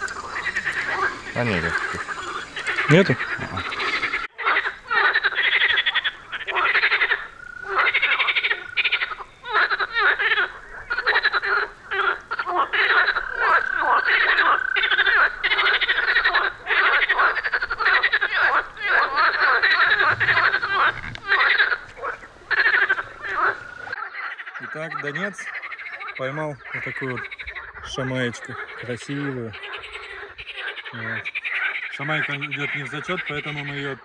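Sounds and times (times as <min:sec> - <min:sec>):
frogs croaking: 0:00.0 - 0:34.0.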